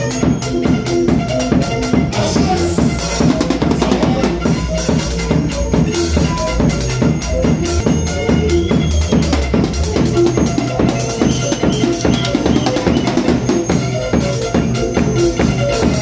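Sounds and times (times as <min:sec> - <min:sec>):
bass guitar line: 0:00.0 - 0:16.0
drum kit beating: 0:00.0 - 0:16.0.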